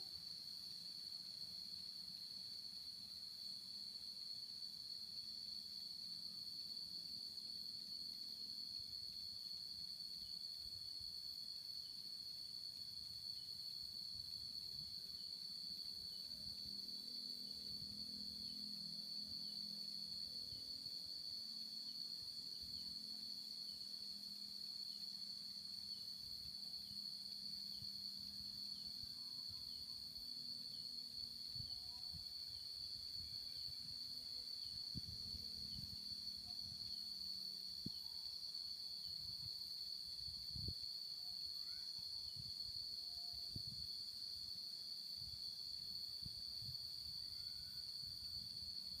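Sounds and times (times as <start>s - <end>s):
high-pitched insect drone: 0.0s - 49.0s.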